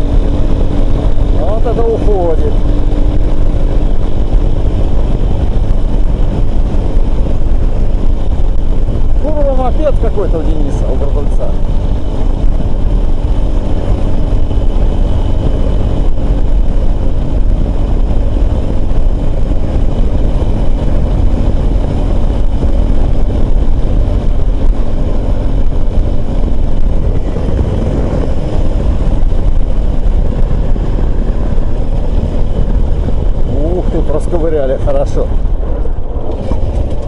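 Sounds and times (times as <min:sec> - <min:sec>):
motorcycle engine at speed: 0:00.0 - 0:37.0.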